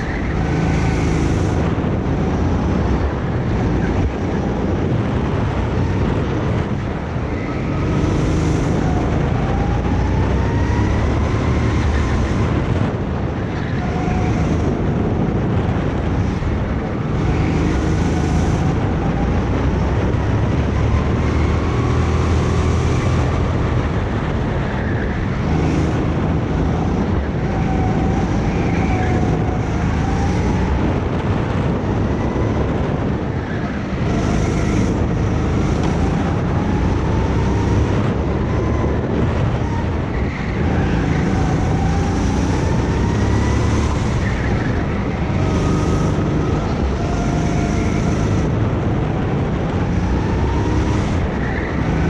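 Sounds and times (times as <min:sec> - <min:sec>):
go-kart engine running hard: 0:00.0 - 0:52.0.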